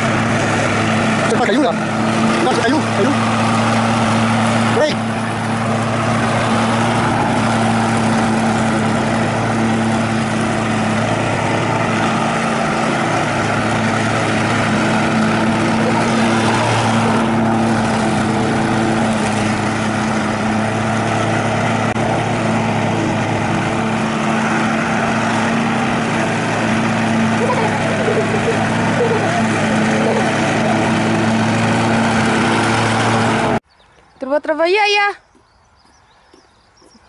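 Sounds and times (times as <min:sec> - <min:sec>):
lawn mower running: 0:00.0 - 0:33.7.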